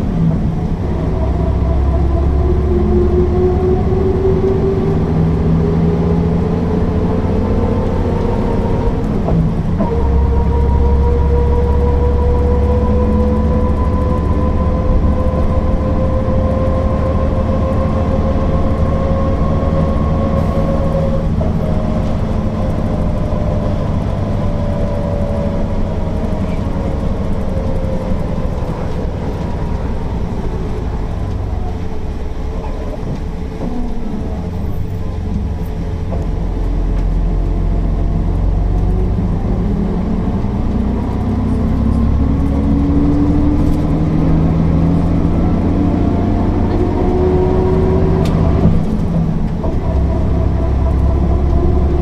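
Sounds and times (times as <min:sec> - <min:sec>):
bus diesel engine rumbling: 0:00.0 - 0:52.0.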